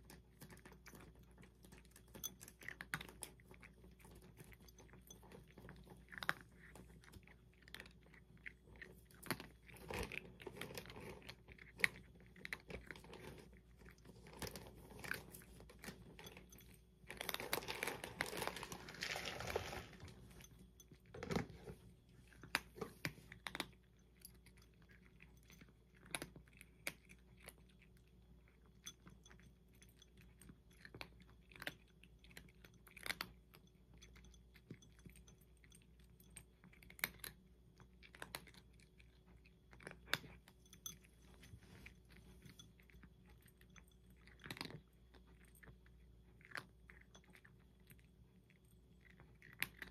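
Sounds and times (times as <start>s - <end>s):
cat chewing and crunching: 0.0s - 49.9s.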